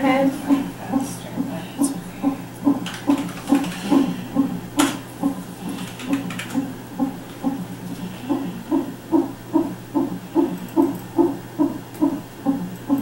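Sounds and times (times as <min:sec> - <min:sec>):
doppler heartbeat whooshing pulse: 0:00.0 - 0:13.0
steady hum: 0:00.0 - 0:13.0.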